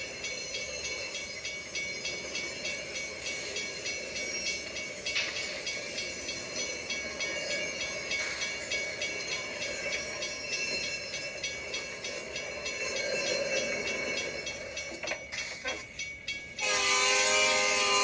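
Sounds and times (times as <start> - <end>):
steam locomotive running: 0.0 - 18.0.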